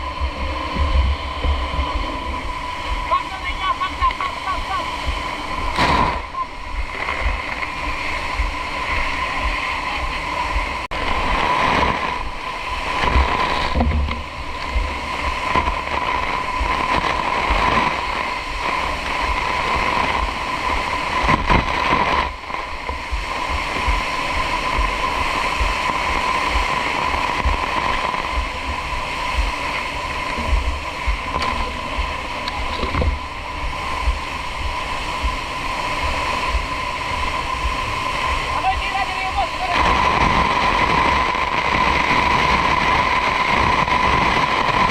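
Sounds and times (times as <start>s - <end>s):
constant tone: 0.0s - 44.9s
water spraying from fire hoses: 0.0s - 44.9s.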